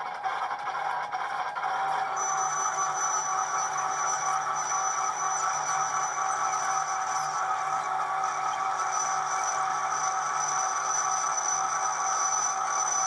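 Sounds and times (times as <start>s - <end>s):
lathe whining under a cut: 1.0s - 13.0s.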